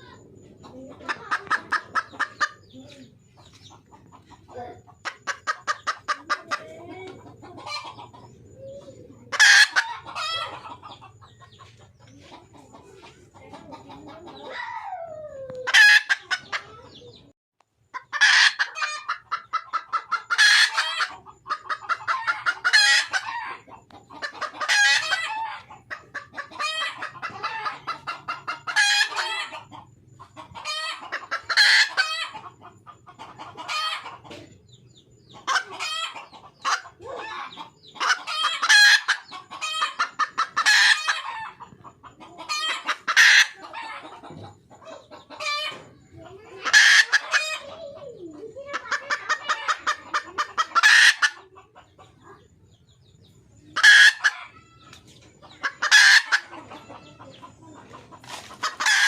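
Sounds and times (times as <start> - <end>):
hen cackling: 0.0 - 17.3, 17.9 - 34.7, 35.3 - 52.8, 53.6 - 59.0.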